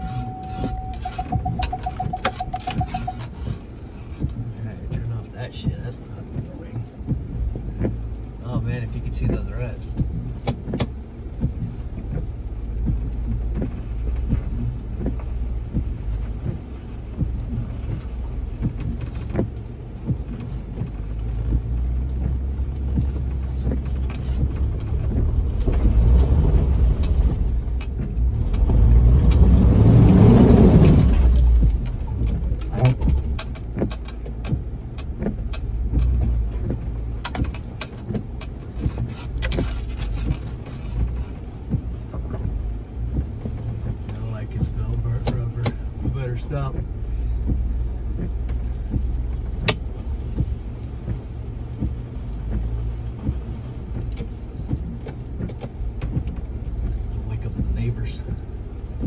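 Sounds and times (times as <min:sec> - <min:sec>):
engine rumbling: 0:00.0 - 0:59.0.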